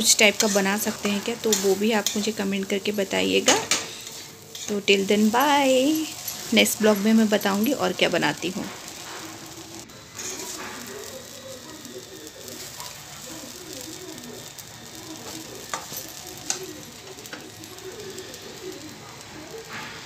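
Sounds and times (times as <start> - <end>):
metal spatula stirring: 0.0 - 18.8
food sizzling in a pan: 0.0 - 20.0.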